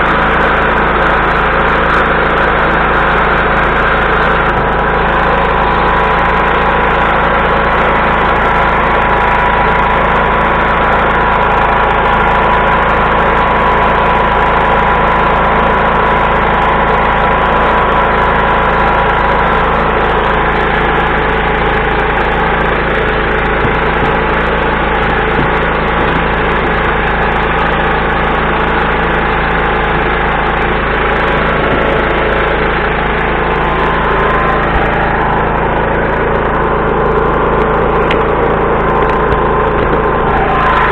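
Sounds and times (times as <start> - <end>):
portable generator running: 0.0 - 40.9.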